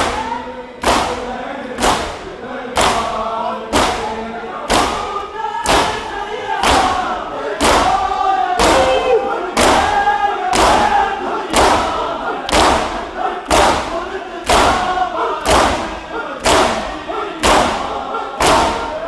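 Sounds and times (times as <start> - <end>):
men slapping chests in unison: 0.0 - 4.1, 4.7 - 19.0
crowd singing a lament: 0.0 - 19.0.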